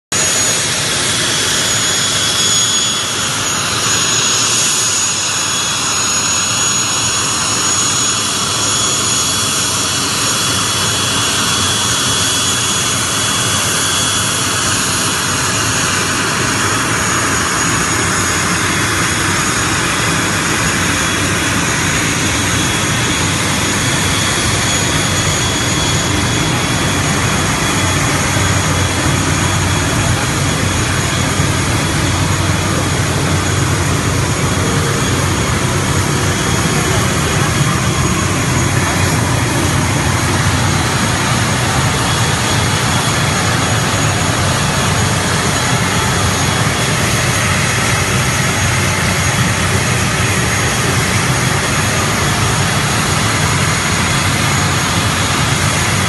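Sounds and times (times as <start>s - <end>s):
turbine engine running: 0.0s - 56.0s.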